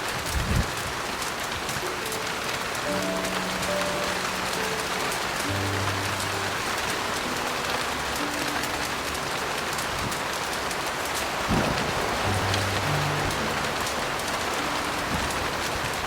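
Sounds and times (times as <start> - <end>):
faint piano notes: 0.0 - 16.0
heavy rain falling: 0.0 - 16.0.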